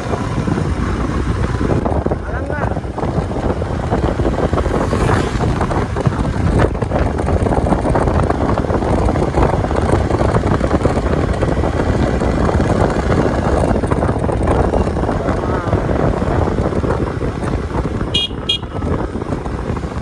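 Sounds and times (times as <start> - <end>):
motorcycle engine: 0.0 - 20.0
road noise: 0.0 - 20.0
wind buffeting microphone: 0.0 - 20.0.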